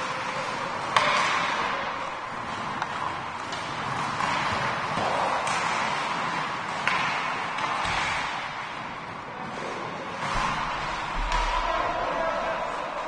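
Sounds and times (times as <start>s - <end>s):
hockey sticks knocking puck: 0.0s - 13.0s.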